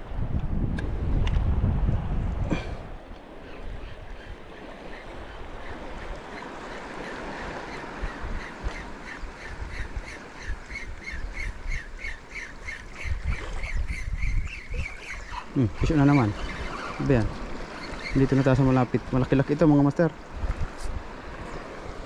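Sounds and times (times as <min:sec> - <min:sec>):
wind: 0:00.0 - 0:22.0
water lapping: 0:02.5 - 0:22.0.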